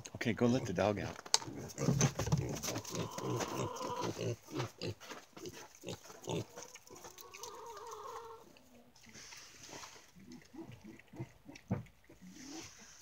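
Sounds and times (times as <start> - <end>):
pigs chewing: 0.0 - 13.0
pigs grunting: 1.4 - 13.0.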